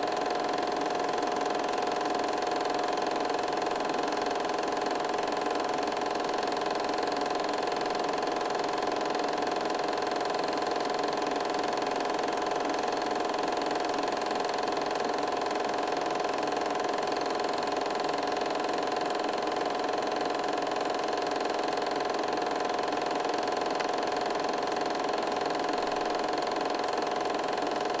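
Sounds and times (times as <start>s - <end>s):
film projector whirring: 0.0s - 28.0s.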